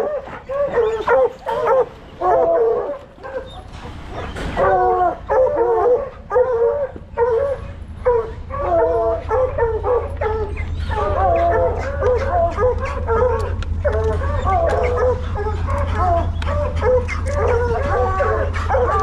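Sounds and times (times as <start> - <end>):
hounds baying and barking: 0.0 - 19.0.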